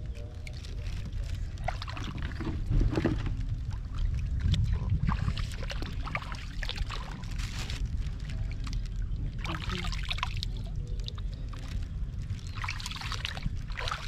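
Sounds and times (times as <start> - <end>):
steady low rumble: 0.0 - 14.0
water splashing and sloshing: 0.0 - 14.0.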